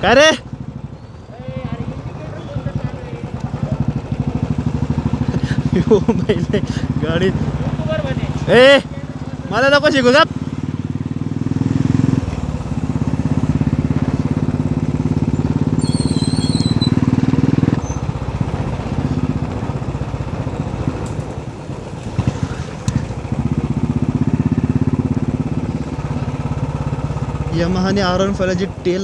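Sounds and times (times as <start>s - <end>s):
motorcycle exhaust thudding: 2.6s - 9.5s, 10.3s - 27.8s.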